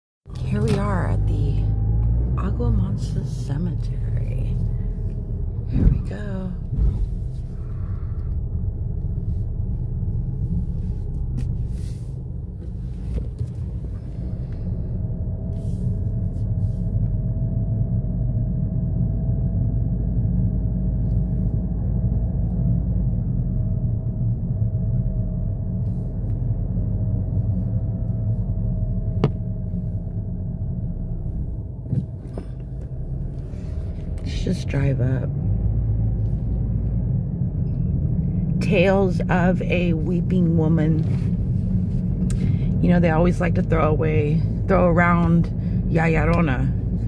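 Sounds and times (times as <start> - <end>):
car cabin low rumble: 0.2 - 47.0.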